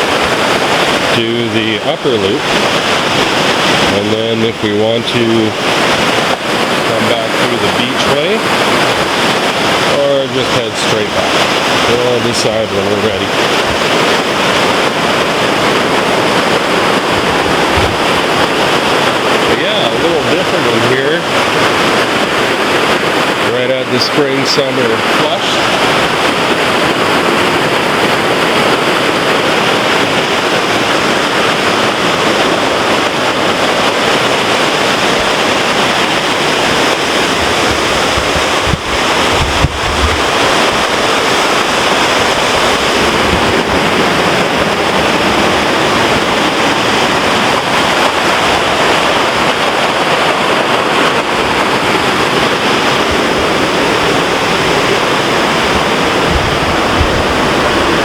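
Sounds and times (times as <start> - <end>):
creek rushing: 0.0 - 58.0
bump on microphone: 1.0 - 58.0.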